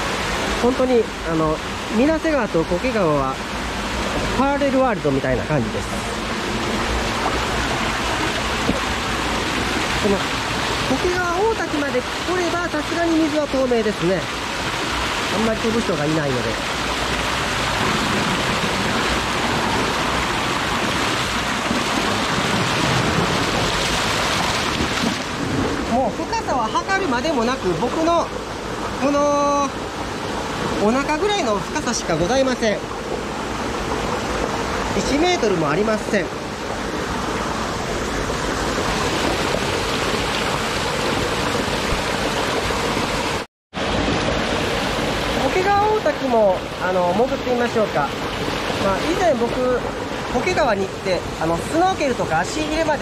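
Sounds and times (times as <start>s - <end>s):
waterfall splashing into pool: 0.0s - 53.0s.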